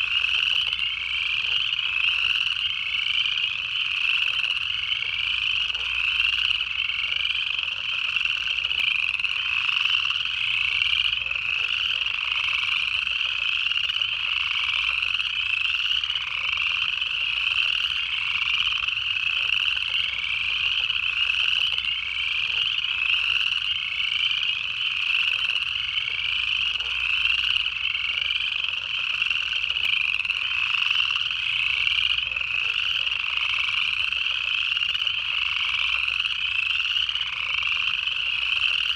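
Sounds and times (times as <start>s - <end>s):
chorus frogs trilling: 0.0s - 38.9s
leopard frogs calling: 0.0s - 38.9s
spring peepers calling: 0.0s - 38.9s
toads calling: 0.0s - 38.9s.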